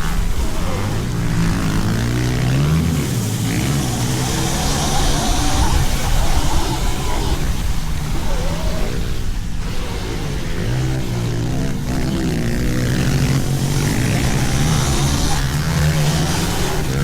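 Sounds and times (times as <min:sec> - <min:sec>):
pit bike engines droning: 0:00.0 - 0:17.0.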